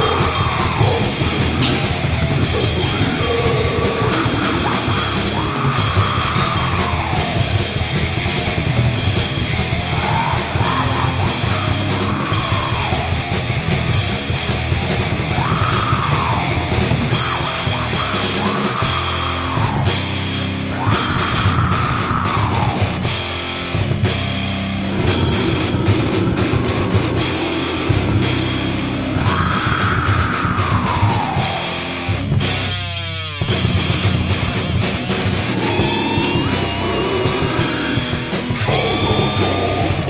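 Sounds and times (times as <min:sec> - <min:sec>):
death metal music: 0:00.0 - 0:40.0
fast dense drumming: 0:00.0 - 0:40.0
heavily distorted guitars: 0:00.0 - 0:40.0.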